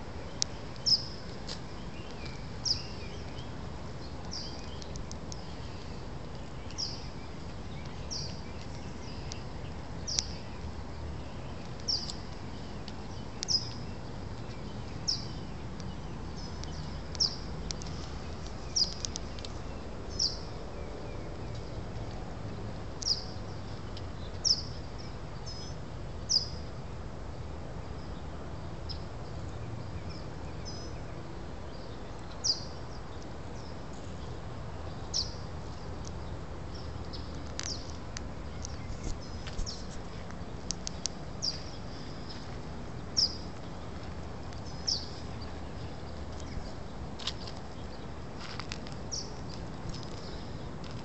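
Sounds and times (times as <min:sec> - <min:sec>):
birds chirping: 0:00.0 - 0:26.8, 0:27.4 - 0:51.0
low steady background rumble: 0:00.0 - 0:51.0.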